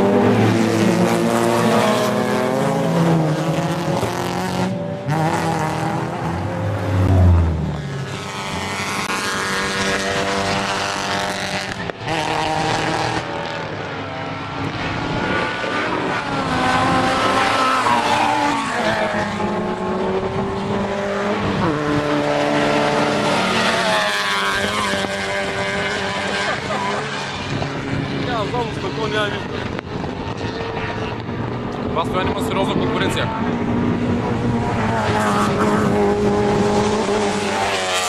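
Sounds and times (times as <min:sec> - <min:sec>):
racing car engines passing: 0:00.0 - 0:38.0.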